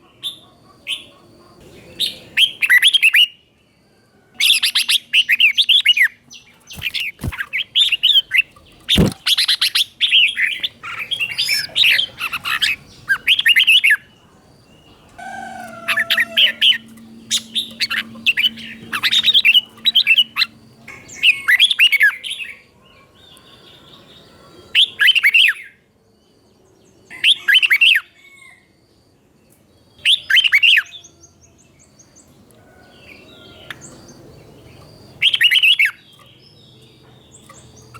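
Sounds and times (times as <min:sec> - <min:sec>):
bird singing chirping phrases: 0:00.0 - 0:03.8, 0:04.4 - 0:28.5, 0:29.3 - 0:37.9.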